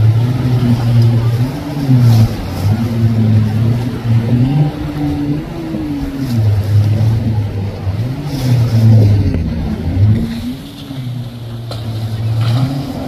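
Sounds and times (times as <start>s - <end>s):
choppy water: 0.0s - 13.0s
motorboat engine: 0.0s - 13.0s.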